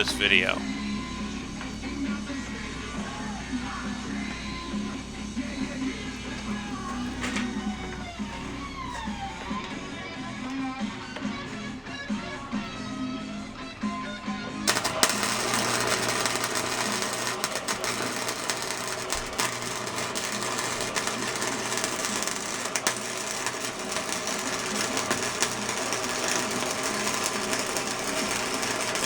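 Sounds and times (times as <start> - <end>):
welder arc crackling: 0.0 - 29.0.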